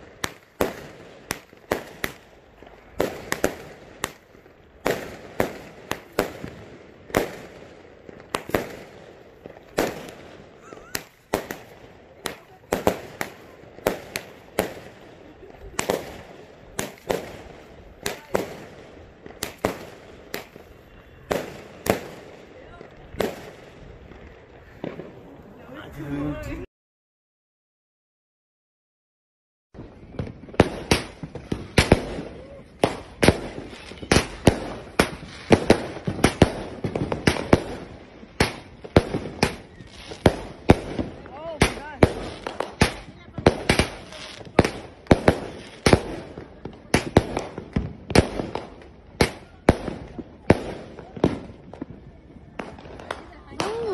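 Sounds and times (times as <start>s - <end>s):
fireworks cake firing sharp reports: 0.0s - 26.7s, 29.8s - 53.9s.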